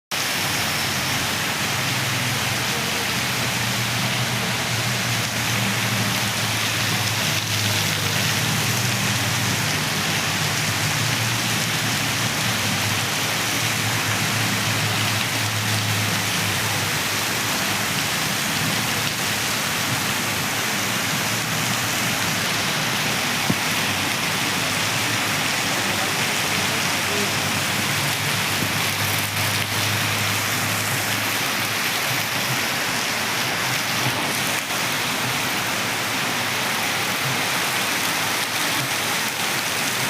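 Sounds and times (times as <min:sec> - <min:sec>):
heavy rain: 0:00.1 - 0:40.0.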